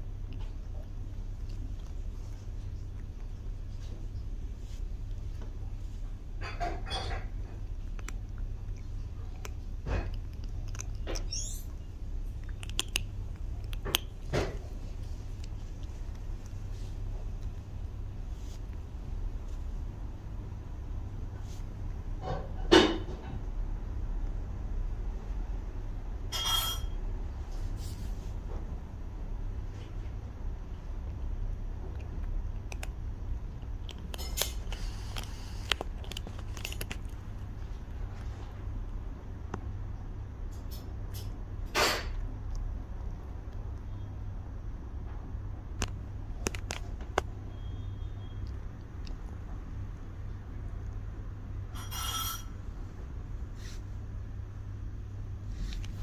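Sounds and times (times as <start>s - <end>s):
kitten crunching kibble: 0.0s - 24.7s, 29.5s - 43.9s, 45.2s - 47.5s, 48.1s - 54.4s
low steady hum: 0.0s - 56.0s.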